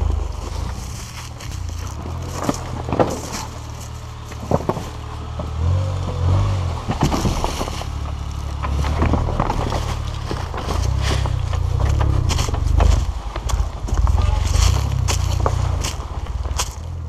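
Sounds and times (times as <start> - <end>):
stones crunching under tyres: 0.0 - 17.0
vehicle engine running low: 0.0 - 17.0.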